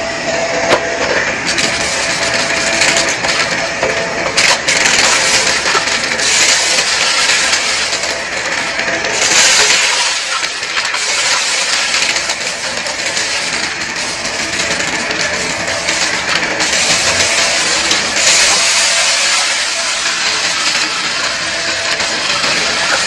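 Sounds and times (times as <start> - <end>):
upright vacuum running: 0.0 - 23.0
debris crunching and rattling: 1.4 - 23.0.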